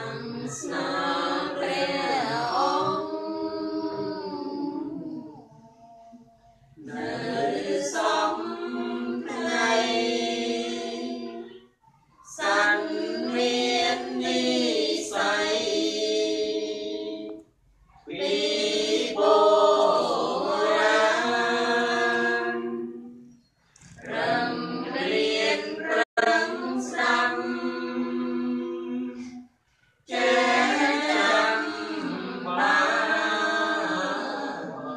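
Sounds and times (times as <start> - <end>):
group chanting in unison: 0.0 - 6.2, 6.8 - 17.4, 18.0 - 23.3, 23.9 - 29.4, 30.0 - 34.9.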